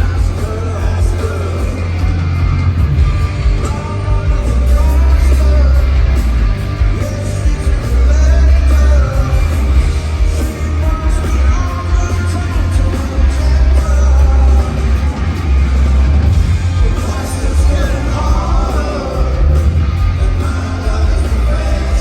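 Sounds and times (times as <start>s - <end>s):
lead vocal singing: 0.0s - 22.0s
live rock band playing: 0.0s - 22.0s.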